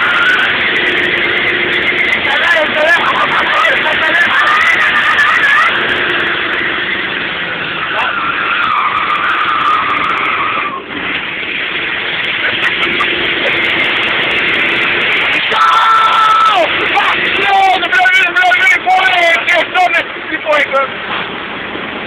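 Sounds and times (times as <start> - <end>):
car engine working hard: 0.0 - 22.0
car tyres squealing: 0.0 - 22.0.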